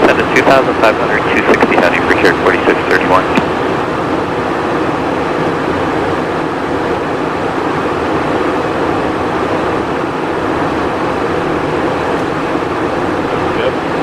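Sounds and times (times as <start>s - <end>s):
jet cockpit engine and airflow noise: 0.0s - 14.0s.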